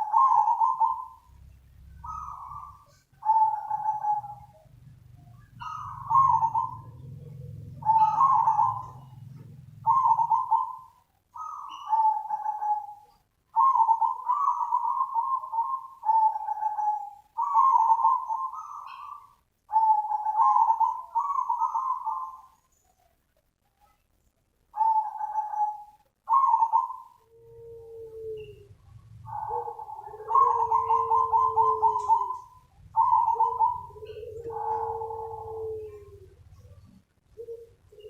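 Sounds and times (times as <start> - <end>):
dove cooing: 0.0 - 23.1, 24.7 - 38.0.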